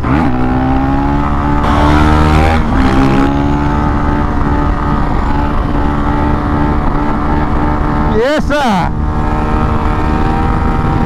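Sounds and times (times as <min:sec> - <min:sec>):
motorcycle engines running hard: 0:00.0 - 0:11.0.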